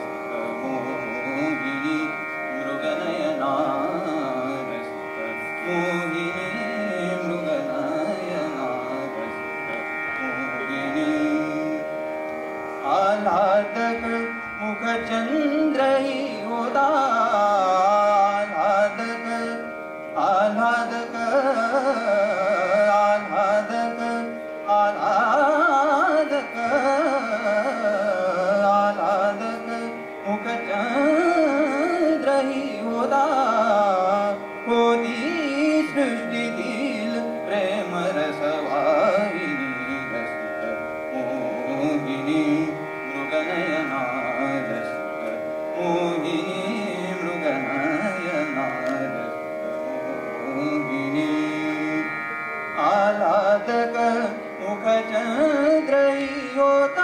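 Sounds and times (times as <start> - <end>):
man singing ornate phrases: 0.0 - 12.0, 12.8 - 57.0
steady drone: 0.0 - 57.0.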